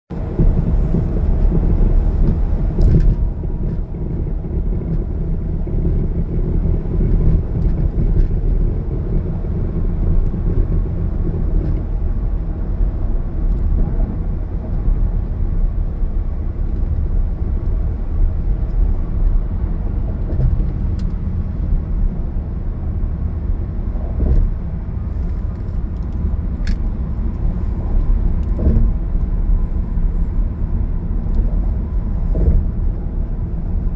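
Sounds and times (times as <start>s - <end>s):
car engine and tyre noise: 0.1s - 33.9s.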